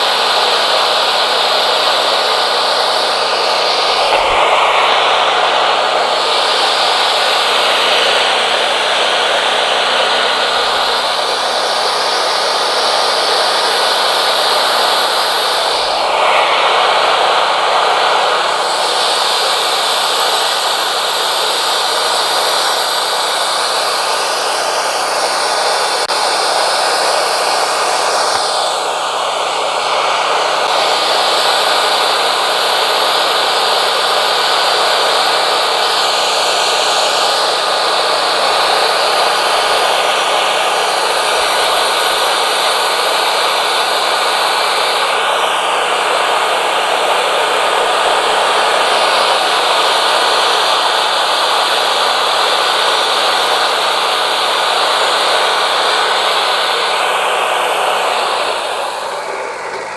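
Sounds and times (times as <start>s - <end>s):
bandsaw mill sawing wood: 0.0s - 59.9s.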